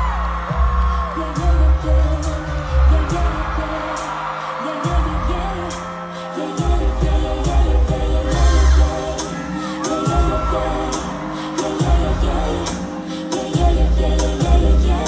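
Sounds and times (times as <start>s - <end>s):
heavy bass beat with hi-hats: 0.0s - 5.9s, 6.5s - 15.0s
female vocals: 0.9s - 15.0s.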